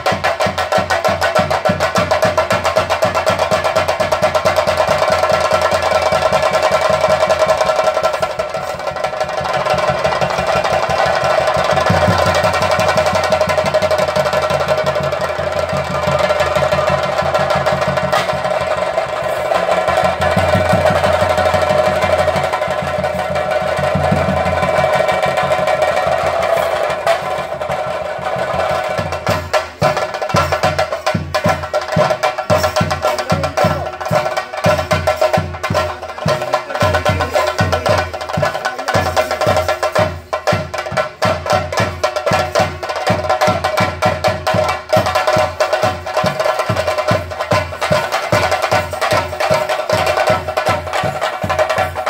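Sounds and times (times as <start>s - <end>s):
drum ensemble rolling: 0.0s - 52.0s.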